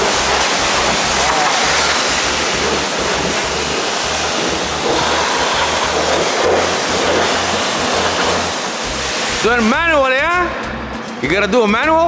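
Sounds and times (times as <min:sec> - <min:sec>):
high-pressure water spray hissing: 0:00.0 - 0:10.4.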